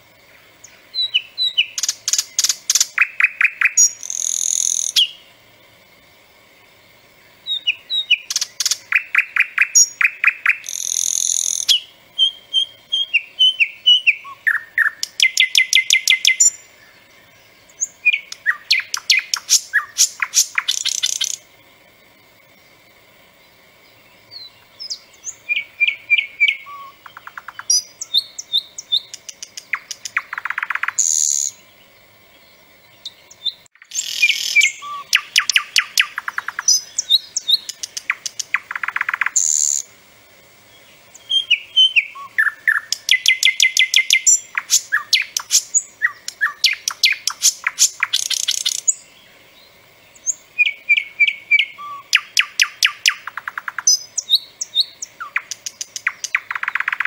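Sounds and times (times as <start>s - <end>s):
nightingale singing: 0.0s - 6.0s, 6.7s - 39.9s, 40.6s - 57.0s.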